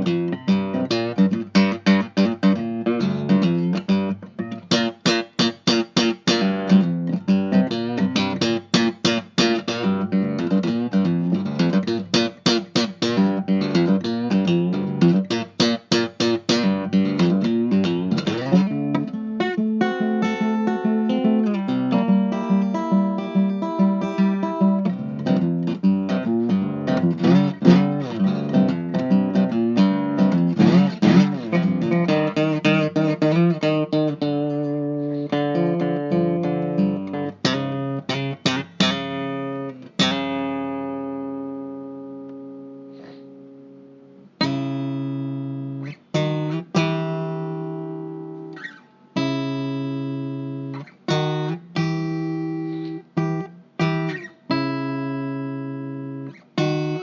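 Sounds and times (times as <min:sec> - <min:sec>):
solo guitar playing: 0:00.0 - 0:57.0.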